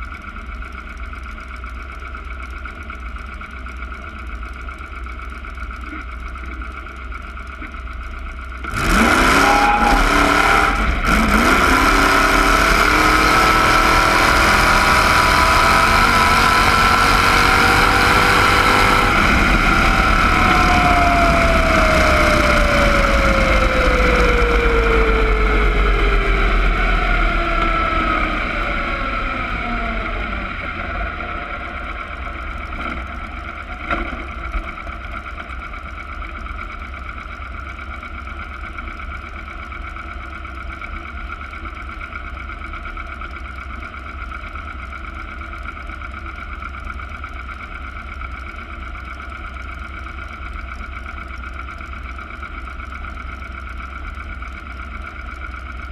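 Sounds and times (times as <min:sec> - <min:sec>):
dragster engine whine: 0:00.0 - 0:55.9.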